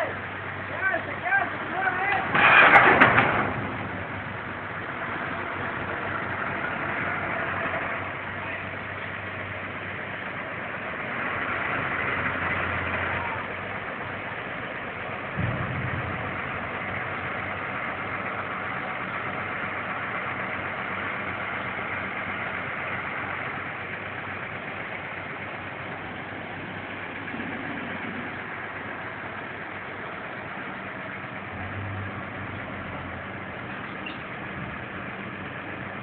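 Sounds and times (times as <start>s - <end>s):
large engine idling: 0.0s - 36.0s.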